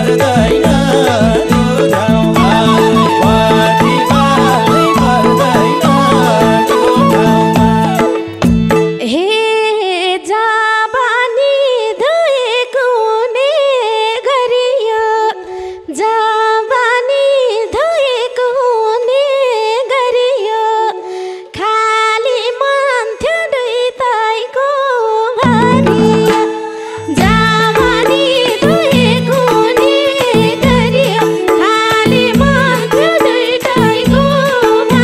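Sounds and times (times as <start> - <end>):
woman singing solo: 0.0 - 8.3, 9.0 - 35.0.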